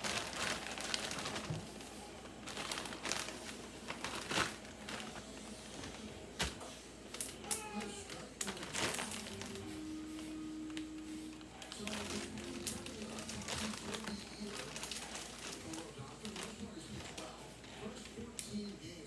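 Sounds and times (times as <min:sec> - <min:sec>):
plastic bag crinkling: 0:00.0 - 0:18.4.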